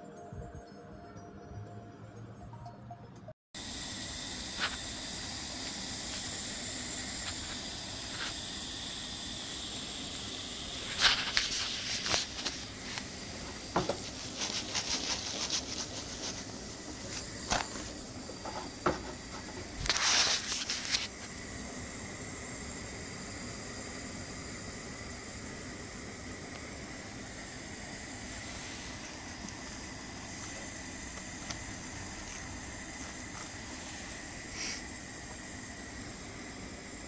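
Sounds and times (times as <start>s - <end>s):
flatbread hissing in a pan: 3.6s - 37.0s.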